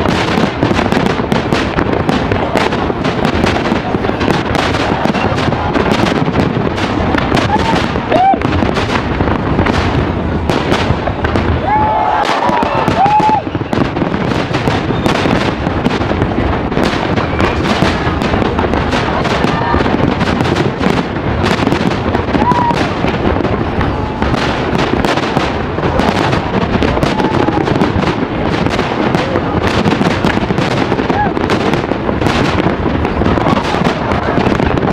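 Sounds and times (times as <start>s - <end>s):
fireworks bursting: 0.0s - 34.9s.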